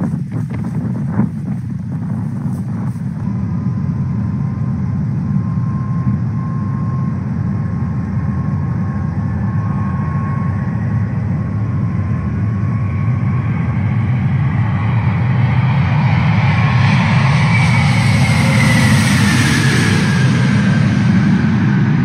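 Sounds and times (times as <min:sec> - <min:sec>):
jet engines rumbling with whine: 0:00.0 - 0:22.0.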